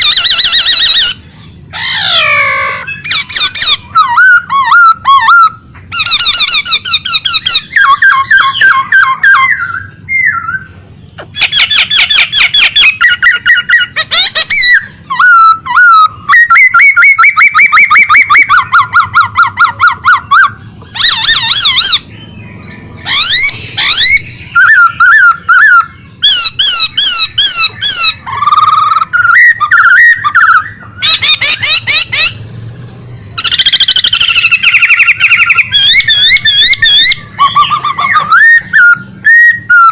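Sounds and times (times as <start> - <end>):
songbird singing trills: 0.0 - 39.9.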